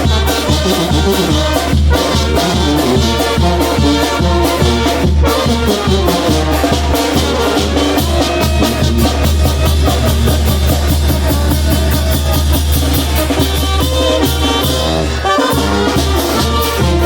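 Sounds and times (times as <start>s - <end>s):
brass band playing: 0.0s - 17.0s
drums beating fast: 0.0s - 17.0s
strong bass line: 1.0s - 17.0s.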